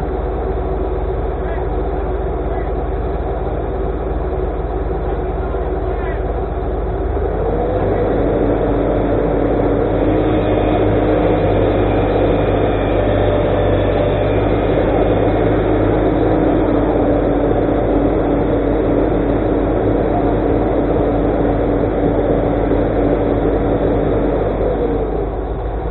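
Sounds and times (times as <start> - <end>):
excavator engine and hydraulics: 0.0 - 25.9.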